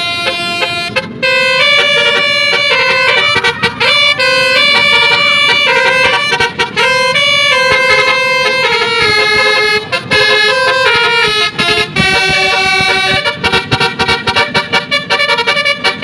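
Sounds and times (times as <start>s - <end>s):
bus horn playing a tune: 0.0s - 16.0s.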